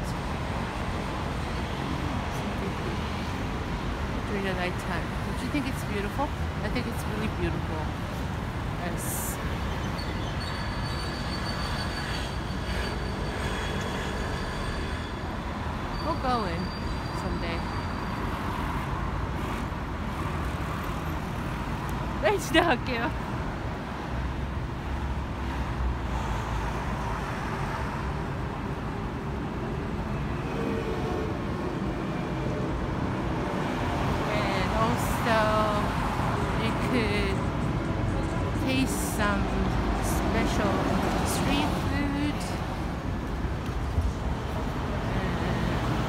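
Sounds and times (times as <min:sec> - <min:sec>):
cars passing: 0:00.0 - 0:46.0
road traffic rumble: 0:00.0 - 0:46.0.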